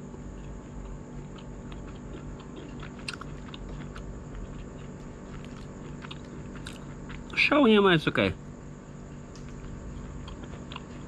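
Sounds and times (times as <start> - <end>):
steady background hum: 0.0 - 11.0
person chewing meat: 0.2 - 7.4, 8.9 - 11.0.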